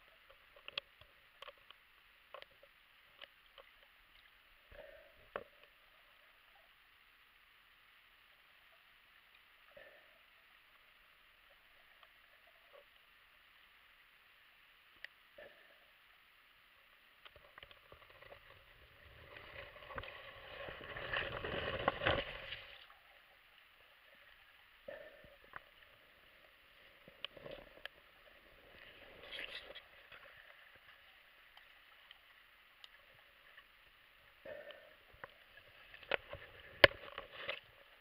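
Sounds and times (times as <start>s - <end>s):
crackling rushing water: 0.0s - 38.0s
faint underwater hiss: 0.0s - 38.0s.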